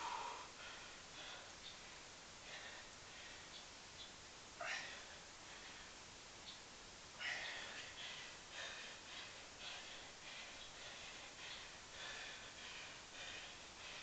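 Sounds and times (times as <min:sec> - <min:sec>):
man breathing heavily: 0:00.0 - 0:03.9, 0:04.5 - 0:06.3, 0:07.1 - 0:14.0.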